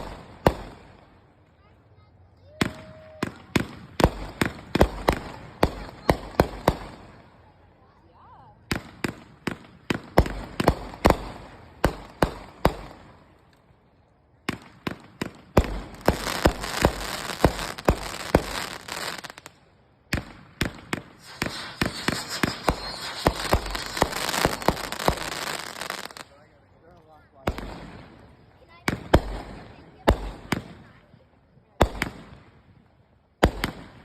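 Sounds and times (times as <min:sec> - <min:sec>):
fireworks banging and crackling: 0:00.0 - 0:01.7, 0:02.4 - 0:07.6, 0:08.6 - 0:13.7, 0:14.4 - 0:26.4, 0:27.3 - 0:34.0.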